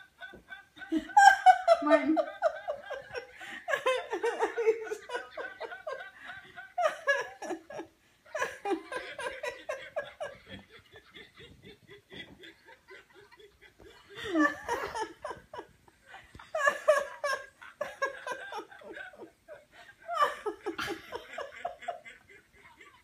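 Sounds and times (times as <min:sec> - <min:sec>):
rhythmic giggling: 0:00.0 - 0:23.0.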